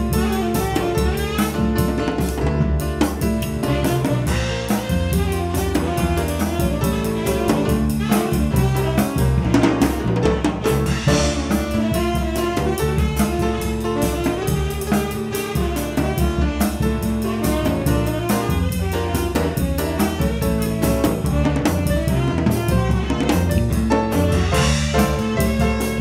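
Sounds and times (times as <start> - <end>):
bass: 0.0 - 26.0
drum kit beat: 0.0 - 26.0
piano: 0.0 - 26.0
saxophone lead: 0.0 - 26.0.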